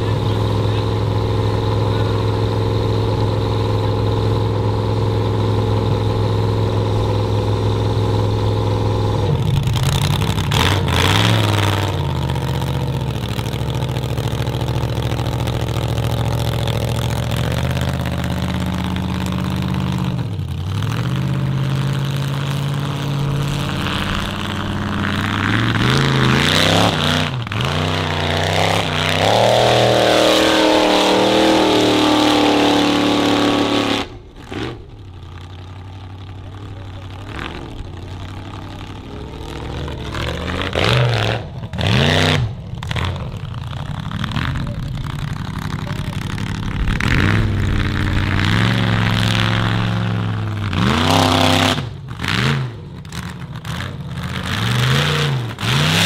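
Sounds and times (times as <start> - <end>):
offroad car engine revving: 0.0 - 56.0.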